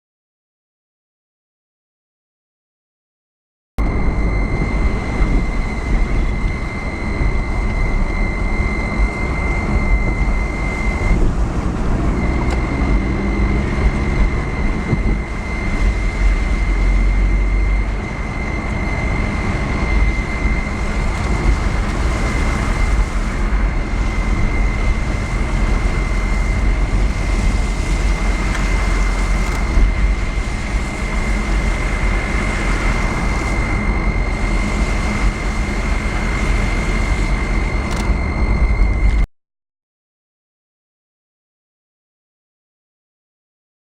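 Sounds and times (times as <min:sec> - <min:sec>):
car road and engine rumble: 0:03.8 - 0:39.3
thin high-pitched whine: 0:03.8 - 0:39.3.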